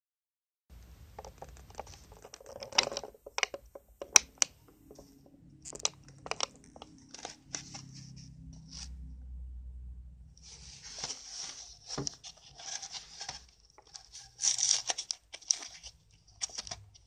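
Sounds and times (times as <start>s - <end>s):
plastic crinkling: 1.2s - 8.9s, 10.6s - 17.0s.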